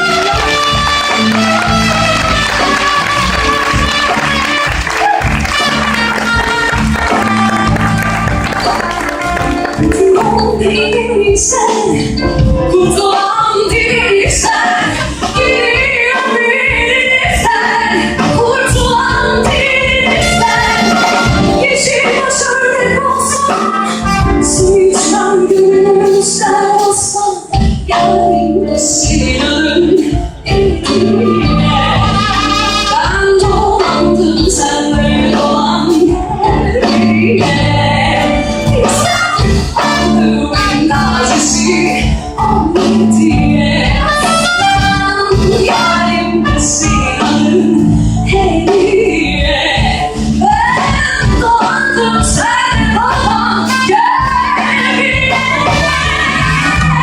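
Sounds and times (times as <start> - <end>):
orchestra playing: 0.0 - 27.1, 27.9 - 50.9, 52.7 - 57.0.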